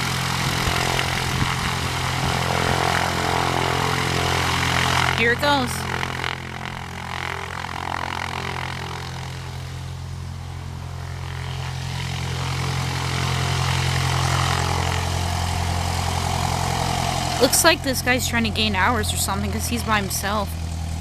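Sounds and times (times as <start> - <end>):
propeller plane engine: 0.0 - 21.0.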